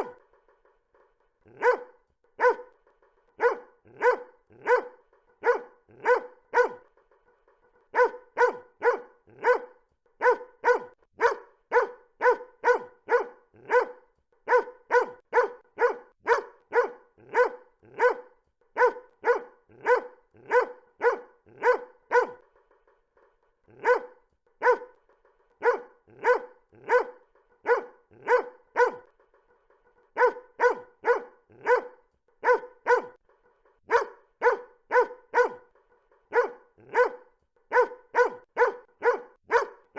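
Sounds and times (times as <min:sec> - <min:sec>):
dog barking: 0:00.0 - 0:00.3, 0:01.4 - 0:02.8, 0:03.4 - 0:07.0, 0:07.9 - 0:22.5, 0:23.7 - 0:25.0, 0:25.6 - 0:29.2, 0:30.1 - 0:33.2, 0:33.9 - 0:39.9.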